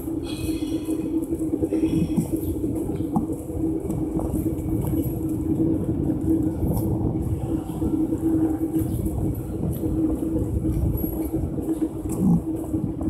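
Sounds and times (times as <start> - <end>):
continuous low rumble: 0.0 - 13.0
steady low hum: 0.0 - 13.0.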